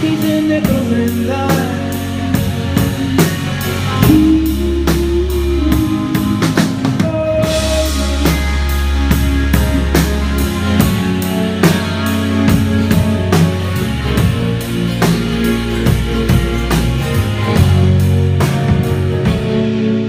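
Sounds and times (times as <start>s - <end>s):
bass guitar: 0.0s - 20.0s
drum kit beat: 0.0s - 20.0s
electric guitar: 0.0s - 20.0s.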